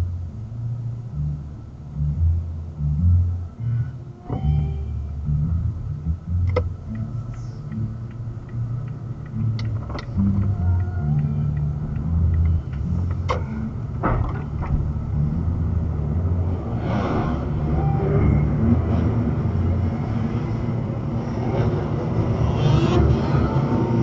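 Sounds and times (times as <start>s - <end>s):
car interior rumble: 0.0s - 24.0s
nearby engines: 0.0s - 24.0s.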